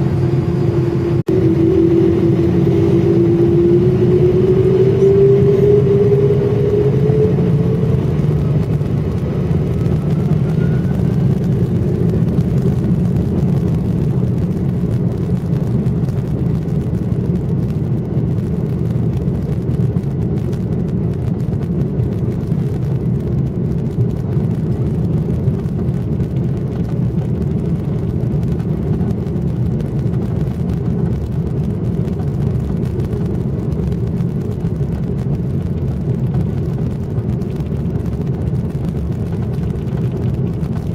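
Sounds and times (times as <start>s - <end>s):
jet engines whining and rumbling: 0.0s - 40.9s.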